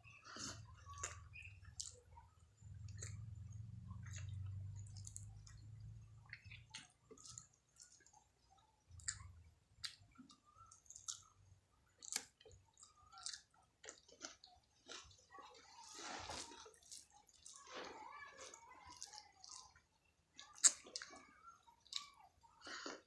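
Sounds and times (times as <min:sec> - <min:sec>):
chewing food with mouth smacks: 0:00.0 - 0:23.0.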